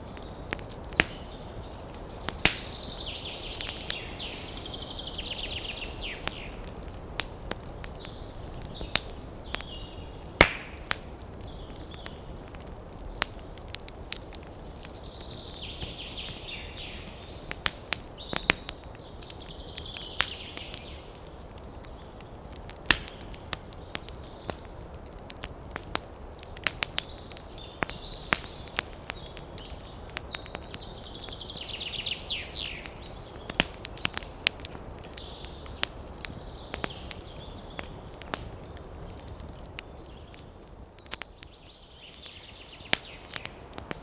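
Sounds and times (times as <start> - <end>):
campfire crackling and popping: 0.0 - 44.0.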